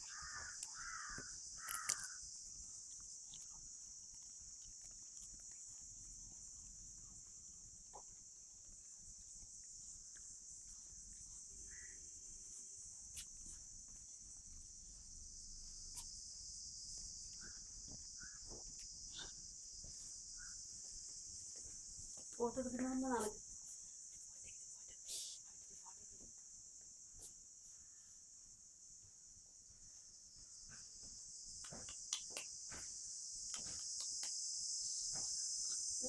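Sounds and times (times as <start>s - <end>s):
insect chorus: 0.0s - 36.0s.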